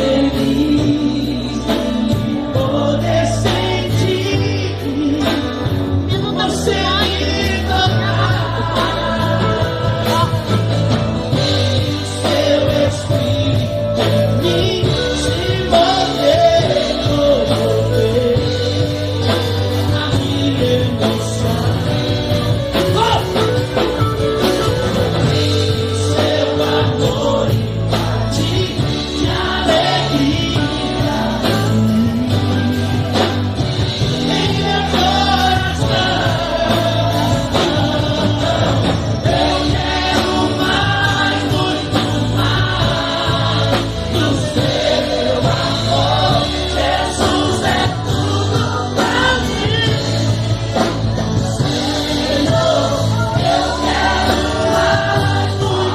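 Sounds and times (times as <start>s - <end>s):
gospel singing with accompaniment: 0.0s - 55.9s
steady bass line: 0.0s - 55.9s.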